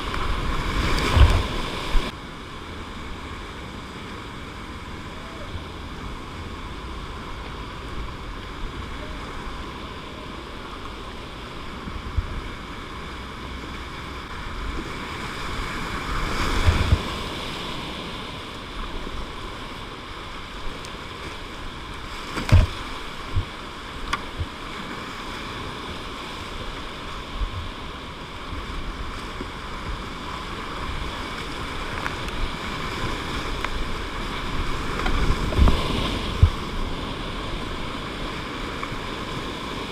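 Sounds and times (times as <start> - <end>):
paddle strokes: 0.0 - 2.2, 3.0 - 39.9
water splashing: 0.0 - 39.9
whitewater rapids rushing: 0.0 - 39.9.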